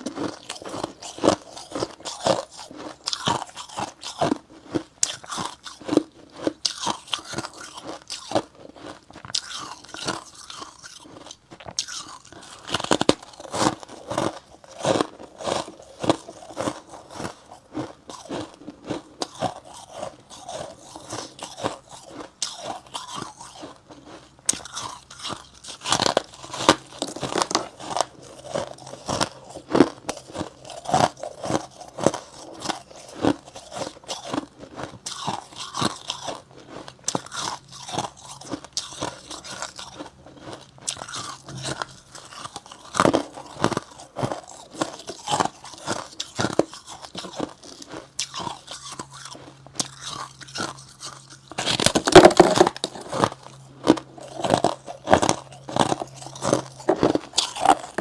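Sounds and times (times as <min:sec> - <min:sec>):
person chewing crunchy frost: 0:00.0 - 0:58.0.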